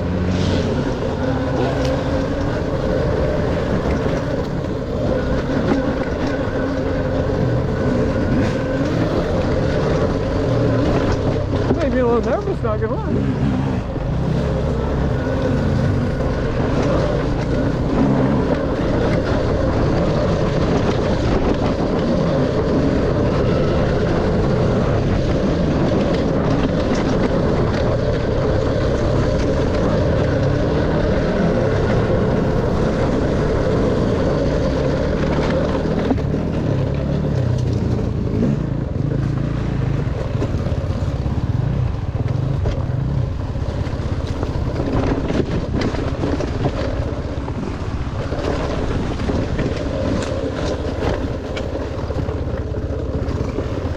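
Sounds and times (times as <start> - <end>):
dirt bike engine revving: 0.0 - 53.9
wind noise on microphone: 0.0 - 53.9.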